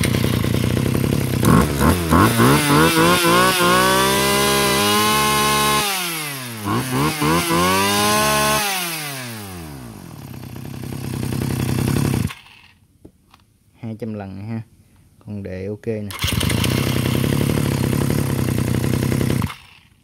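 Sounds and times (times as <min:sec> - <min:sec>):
lawn mower engine revving: 0:00.0 - 0:12.7, 0:16.1 - 0:20.0.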